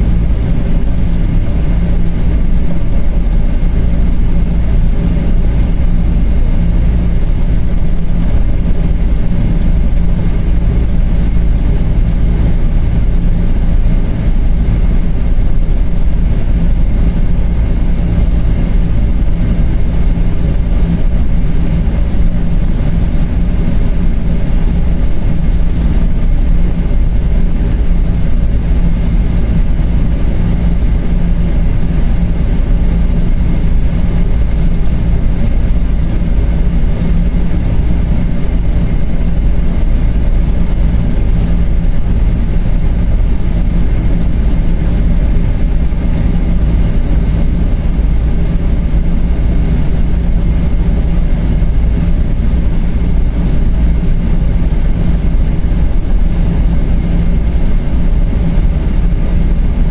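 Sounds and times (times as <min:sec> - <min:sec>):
faint steady whine: 0:00.0 - 0:59.9
low rumble of aircraft cabin: 0:00.0 - 0:59.9.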